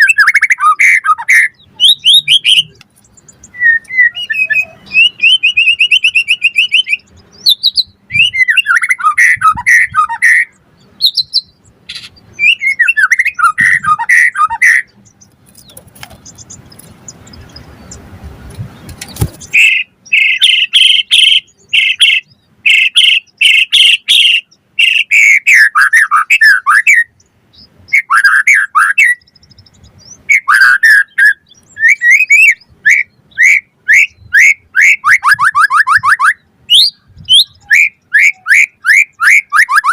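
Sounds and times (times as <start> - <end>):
bird singing trills and whistles: 0.0 - 18.1, 18.8 - 39.9.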